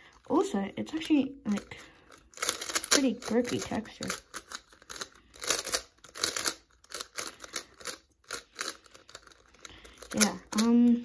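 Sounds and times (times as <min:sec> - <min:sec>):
plastic puzzle clacking and scraping: 0:00.0 - 0:11.0.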